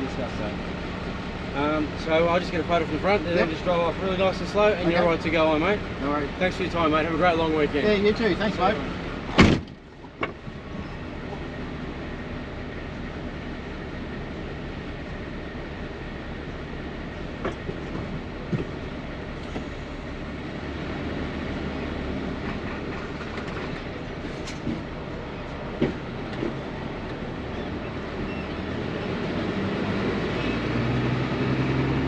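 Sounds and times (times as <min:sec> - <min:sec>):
truck engine pulling away: 0:00.0 - 0:09.4, 0:10.4 - 0:32.0.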